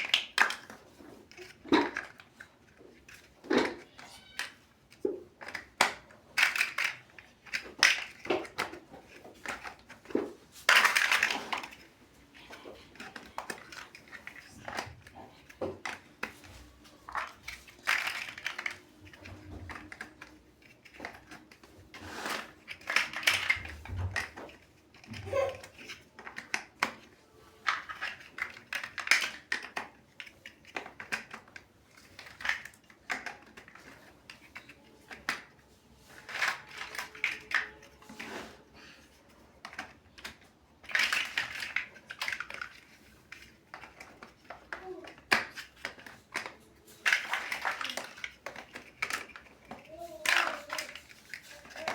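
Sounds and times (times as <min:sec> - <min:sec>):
plastic bricks clicking and clattering: 0:00.0 - 0:51.9.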